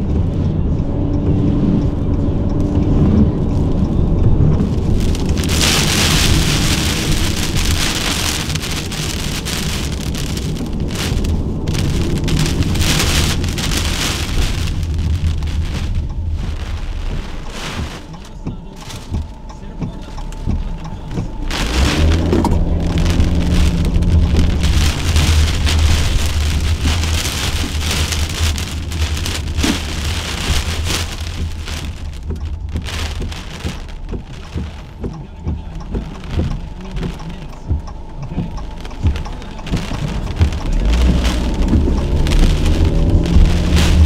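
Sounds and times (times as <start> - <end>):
heavy rain on a surface: 0.0 - 44.0
deep low thunder rumble: 2.9 - 44.0.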